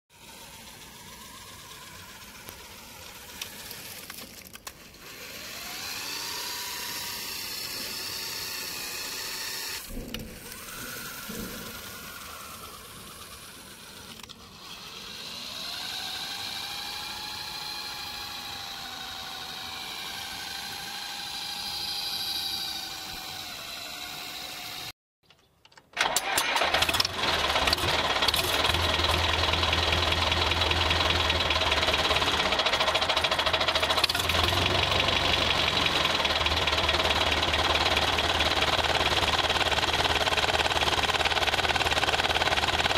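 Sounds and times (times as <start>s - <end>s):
toy car electric motor whining: 0.1s - 25.0s, 26.0s - 42.9s
mechanical drone with rattle: 0.1s - 42.9s.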